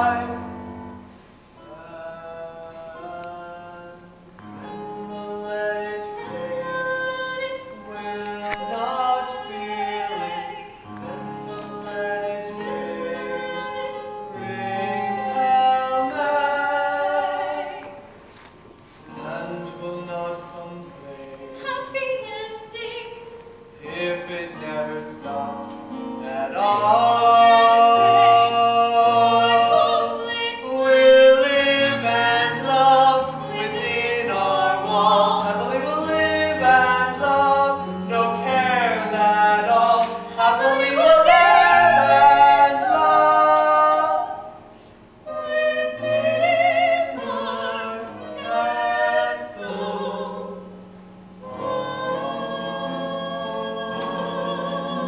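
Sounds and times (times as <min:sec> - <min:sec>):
slow duet singing: 0:00.0 - 0:55.0.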